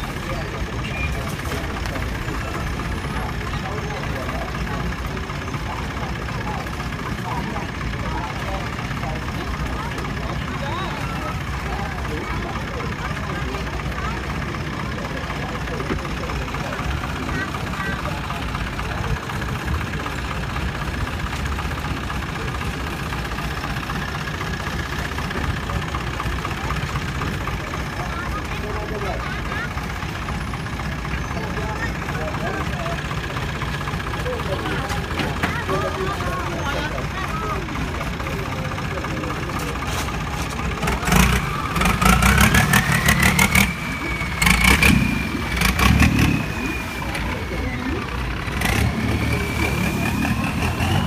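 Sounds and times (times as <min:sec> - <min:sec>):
boat engine idling: 0:00.0 - 0:51.0.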